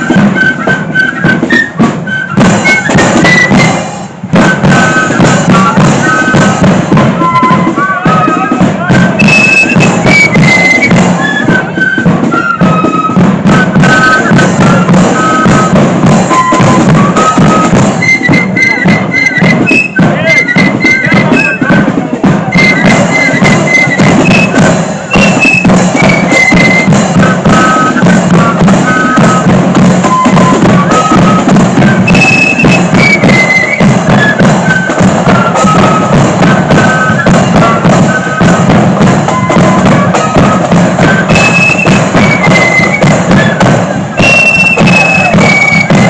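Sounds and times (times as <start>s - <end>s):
flutes playing melody: 0.0s - 46.0s
marching drums beat: 0.0s - 46.0s.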